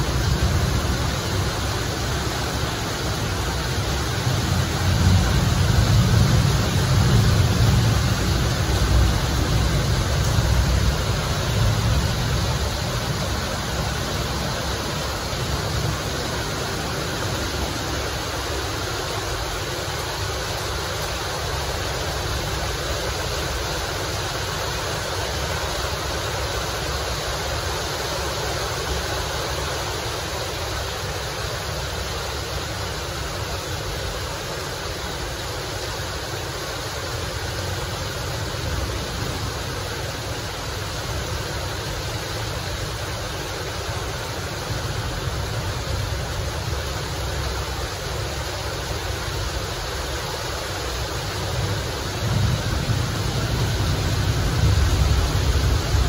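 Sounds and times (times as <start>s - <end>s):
steady hiss of noise: 0.0s - 56.0s.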